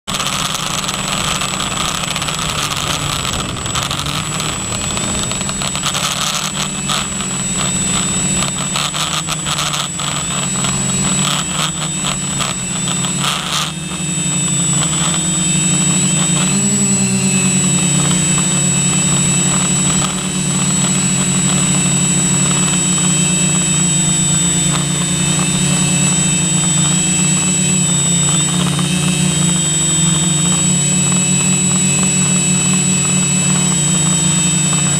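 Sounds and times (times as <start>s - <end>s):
drone propellers running: 0.0s - 34.9s
high steady whine: 0.0s - 34.9s.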